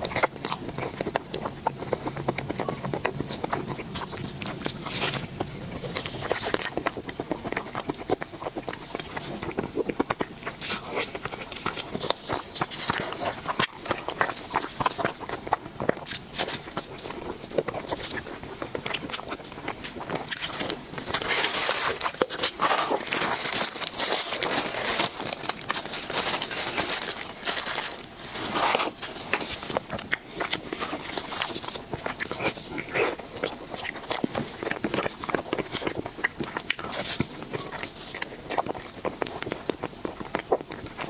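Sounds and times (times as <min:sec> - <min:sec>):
chewing clicks and crackles: 0:00.0 - 0:41.0.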